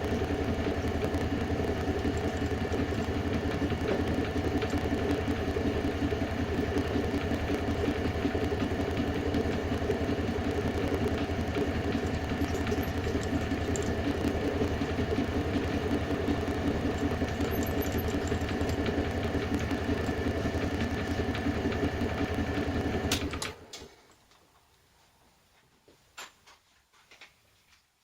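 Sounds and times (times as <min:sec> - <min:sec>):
electric power tool motor running: 0:00.0 - 0:23.6.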